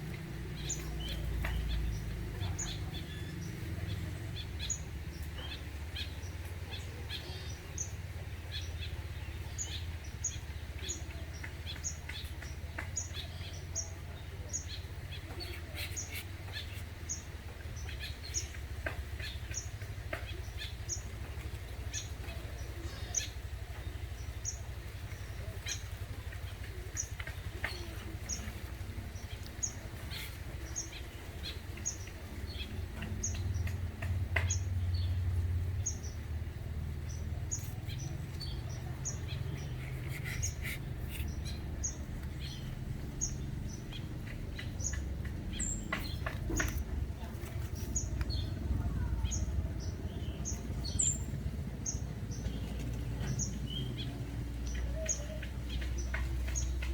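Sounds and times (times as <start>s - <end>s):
bird chirping: 0.0s - 56.9s
low steady rumble: 0.0s - 56.9s.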